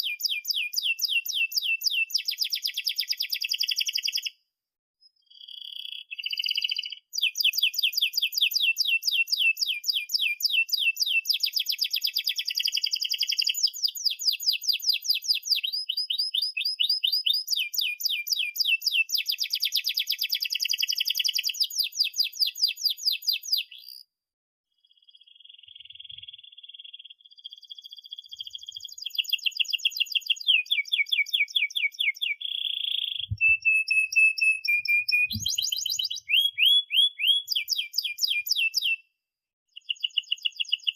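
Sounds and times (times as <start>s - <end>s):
canary singing trills: 0.0s - 4.4s, 5.3s - 24.1s, 24.8s - 39.0s, 39.7s - 40.9s.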